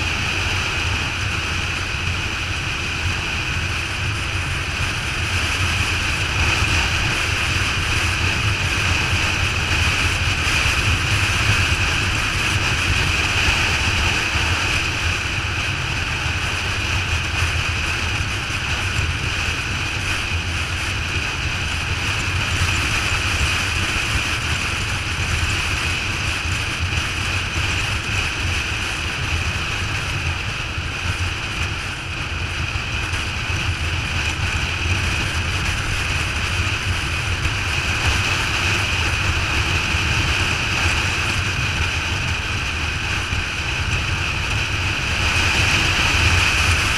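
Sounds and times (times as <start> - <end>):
motorcycle engine drone: 0.0 - 46.9
wind on microphone: 0.0 - 46.9.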